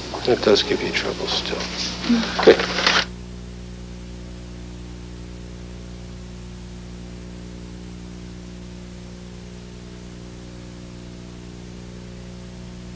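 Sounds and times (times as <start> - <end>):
electrical hum: 0.0 - 12.9
tape hiss: 0.0 - 12.9.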